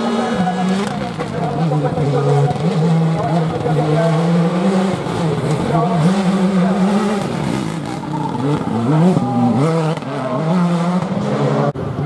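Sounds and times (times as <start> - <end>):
car engine revving hard: 0.0 - 11.8.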